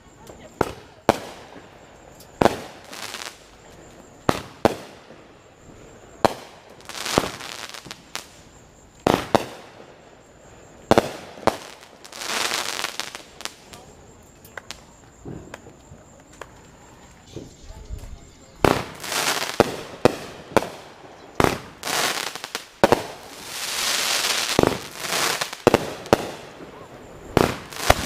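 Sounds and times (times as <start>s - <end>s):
fireworks banging: 0.2s - 10.0s, 10.8s - 28.0s.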